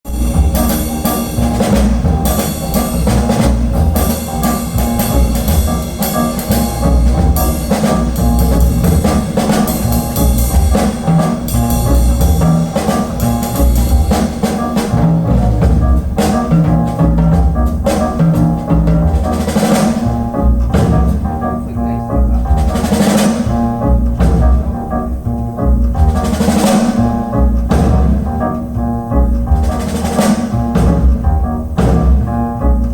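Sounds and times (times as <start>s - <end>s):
jazz music with drums and bass: 0.0s - 32.9s.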